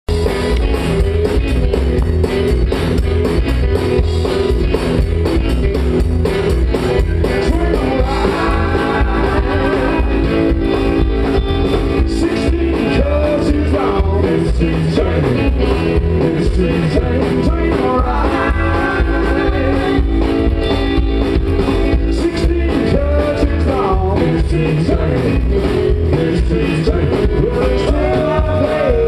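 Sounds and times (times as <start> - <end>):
drum kit beat: 0.1 - 29.0
electric guitar: 0.1 - 29.0
upright double bass: 0.1 - 29.0.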